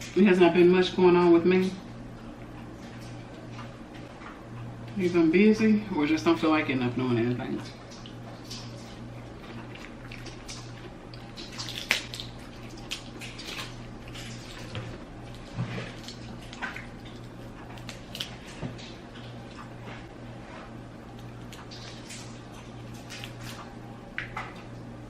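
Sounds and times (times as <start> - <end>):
steady low hum: 0.0 - 25.0
wet chewing and lip smacking: 1.6 - 5.0, 7.6 - 20.1, 20.7 - 24.8.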